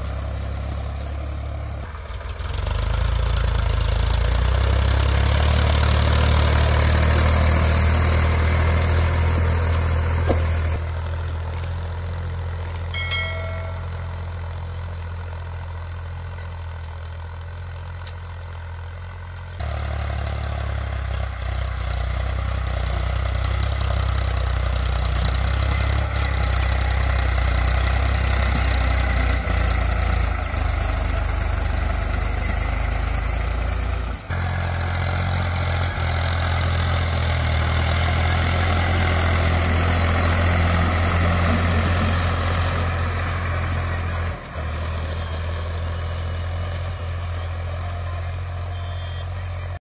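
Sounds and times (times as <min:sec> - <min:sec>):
tractor engine running: 0:00.0 - 0:49.8.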